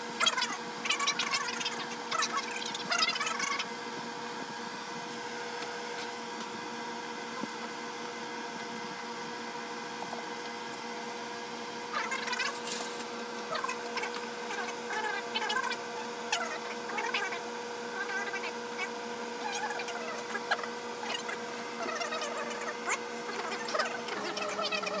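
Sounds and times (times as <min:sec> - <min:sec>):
small electric motor humming: 0:00.0 - 0:25.0.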